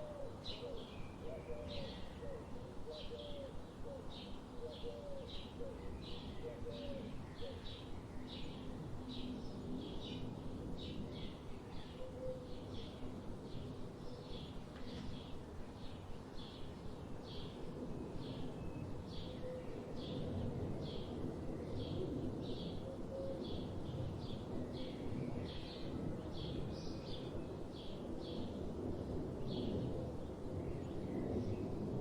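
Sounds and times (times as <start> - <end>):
low rush of background noise: 0.0 - 32.0.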